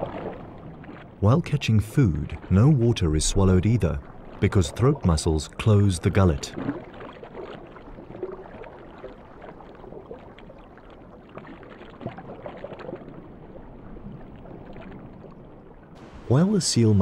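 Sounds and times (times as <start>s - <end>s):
underwater moving water: 0.0s - 17.0s.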